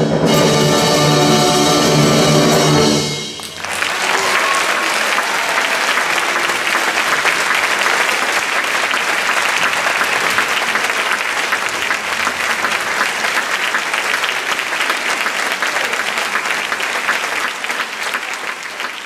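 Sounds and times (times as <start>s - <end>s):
audience applauding: 3.3s - 19.0s.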